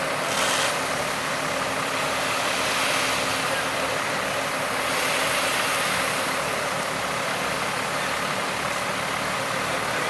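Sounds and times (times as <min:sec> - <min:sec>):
engine running: 0:00.0 - 0:10.0
traffic hiss: 0:00.0 - 0:10.0.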